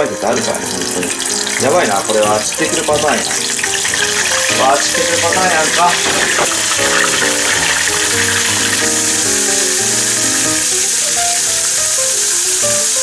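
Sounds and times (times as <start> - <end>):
background music simple melody: 0.0 - 13.0
oil sizzling and bubbling: 0.0 - 13.0.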